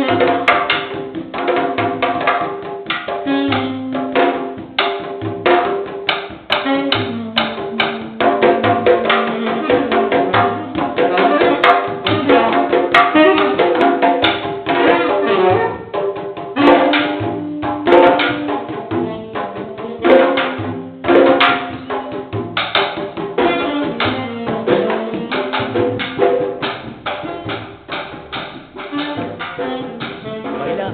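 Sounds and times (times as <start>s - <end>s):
saxophone melody: 0.0s - 1.0s, 3.1s - 5.5s, 6.4s - 22.6s, 23.2s - 30.9s
drums in fast rhythm: 0.0s - 30.9s.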